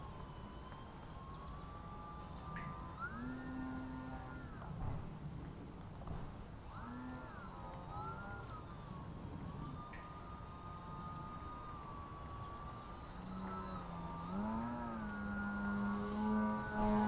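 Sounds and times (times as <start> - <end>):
electric motor propeller whine: 0.0 - 17.0.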